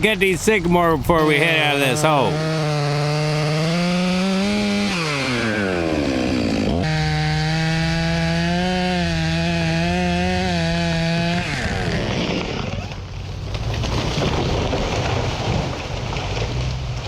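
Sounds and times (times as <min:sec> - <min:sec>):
chainsaw cutting logs: 0:00.8 - 0:17.0.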